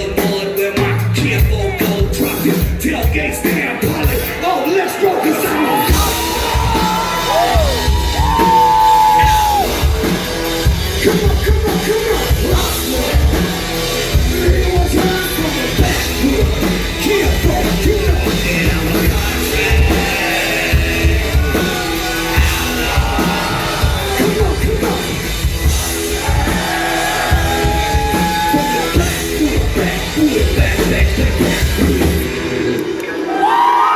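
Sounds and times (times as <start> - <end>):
sung or shouted vocals: 0.0 - 9.9, 11.0 - 33.9
live band music with steady beat: 0.0 - 33.0.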